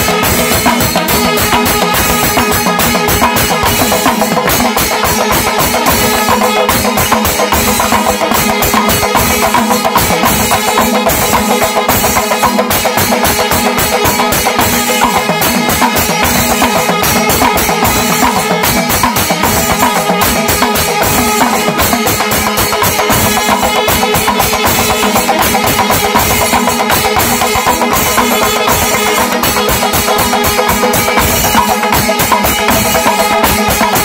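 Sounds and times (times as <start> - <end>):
rapid dense drumming: 0.0 - 34.0.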